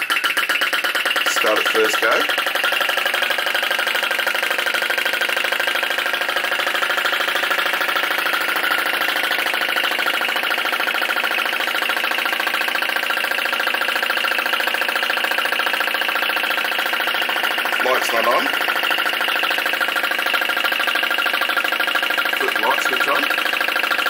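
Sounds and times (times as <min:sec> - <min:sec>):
model engine running fast: 0:00.0 - 0:24.0.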